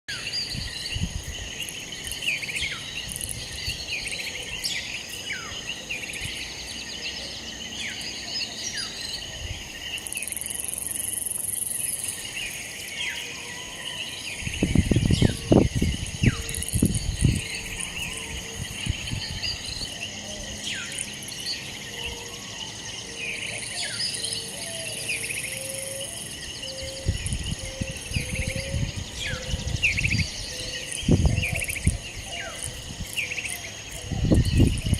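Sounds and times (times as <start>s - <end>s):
insects trilling: 0.1s - 34.9s.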